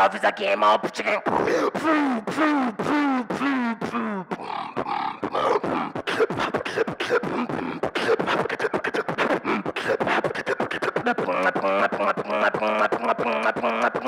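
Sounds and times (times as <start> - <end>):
beatboxing into microphone: 0.0 - 14.0.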